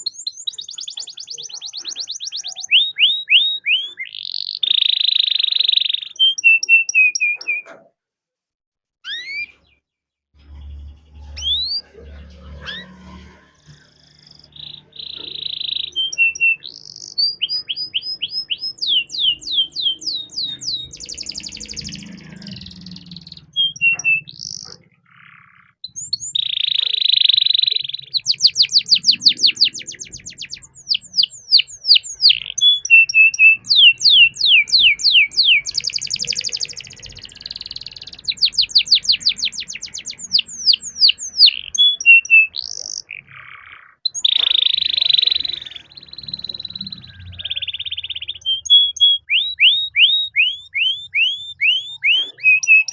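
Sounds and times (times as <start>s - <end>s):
canary singing: 0.0s - 7.9s, 9.0s - 9.8s, 10.4s - 52.9s.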